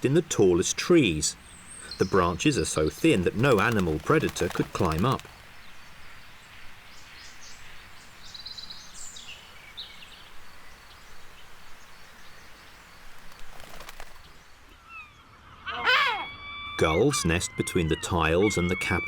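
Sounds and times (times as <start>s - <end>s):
background hiss: 0.0s - 15.3s
faint bird chirps: 0.0s - 19.0s.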